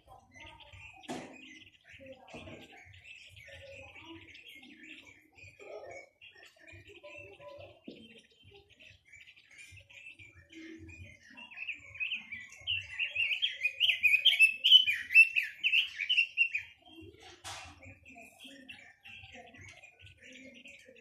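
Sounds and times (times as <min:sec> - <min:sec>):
songbird warbling: 0:00.0 - 0:17.1.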